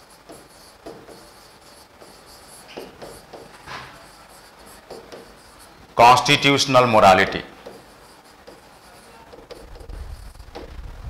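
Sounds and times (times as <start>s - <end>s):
chalk scratching on board: 0.0s - 6.4s, 7.1s - 10.8s.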